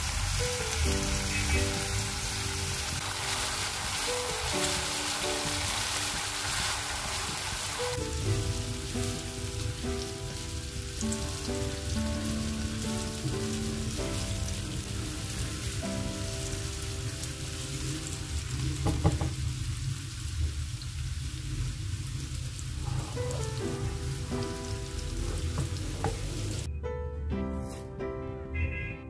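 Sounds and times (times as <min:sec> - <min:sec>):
slow background music: 0:00.0 - 0:18.8, 0:22.8 - 0:29.0
zucchini sizzling in oil: 0:00.0 - 0:26.7.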